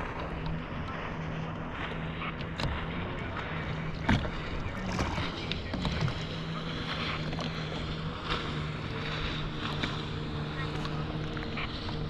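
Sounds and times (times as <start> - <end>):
water wash: 0.0 - 12.0
watercraft engine idling: 0.0 - 12.0.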